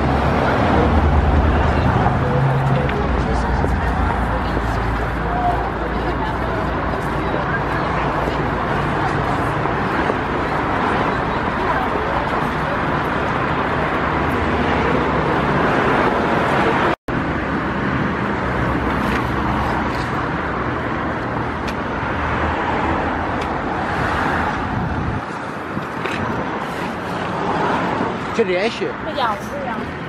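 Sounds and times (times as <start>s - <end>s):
city road traffic: 0.0s - 30.0s.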